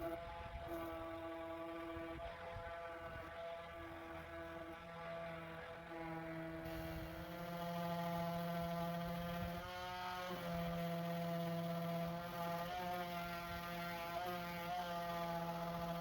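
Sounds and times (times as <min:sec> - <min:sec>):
electric power sander whirring: 0:00.0 - 0:16.0.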